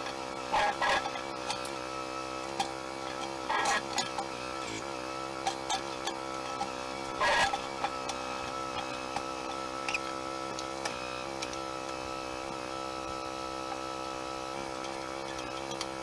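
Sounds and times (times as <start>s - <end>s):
steady mechanical drone: 0.0s - 16.0s.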